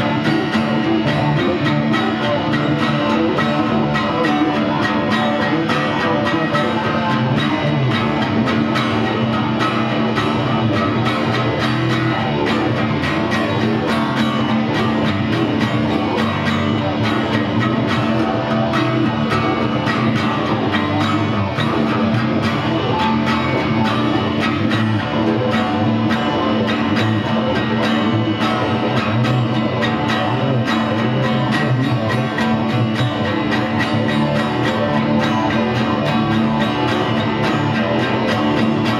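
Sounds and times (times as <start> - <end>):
acoustic guitar strumming: 0.0 - 38.9
electric guitar: 0.0 - 38.9.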